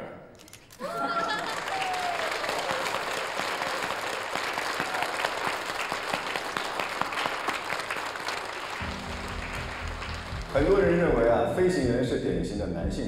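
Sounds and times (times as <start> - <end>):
audience applauding: 0.7 - 11.3.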